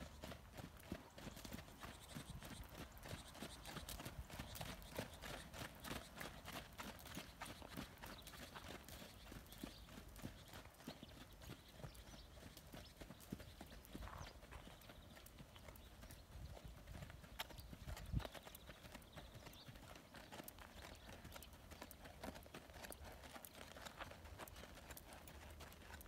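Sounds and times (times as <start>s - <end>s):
horse hoofbeats on sand: 0.0s - 26.0s.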